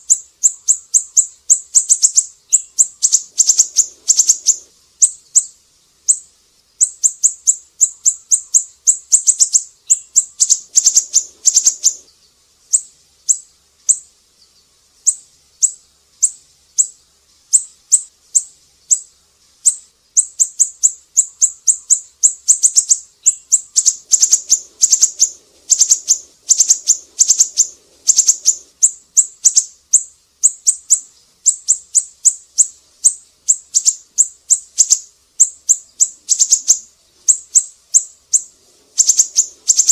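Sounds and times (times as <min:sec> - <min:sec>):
bird singing high chips: 0:00.0 - 0:39.9.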